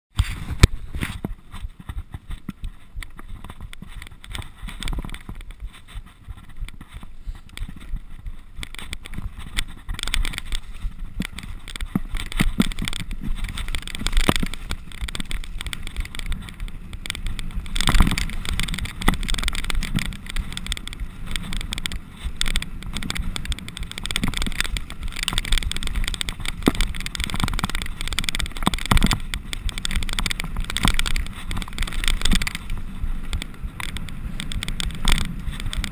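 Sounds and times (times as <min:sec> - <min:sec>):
bike clattering over bumps: 0:00.1 - 0:35.9
bike tyres rumbling on dirt: 0:00.1 - 0:35.9.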